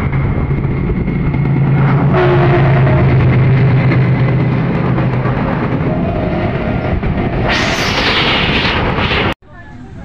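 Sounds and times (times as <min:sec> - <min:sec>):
passing train rush: 0:00.0 - 0:10.0
train running low drone: 0:00.0 - 0:10.0.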